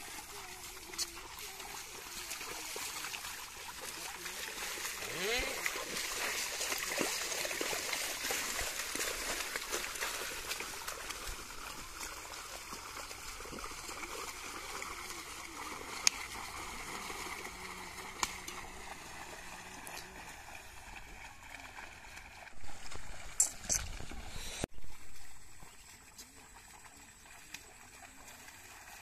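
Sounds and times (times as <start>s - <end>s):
water and mud sloshing: 0.0s - 29.0s.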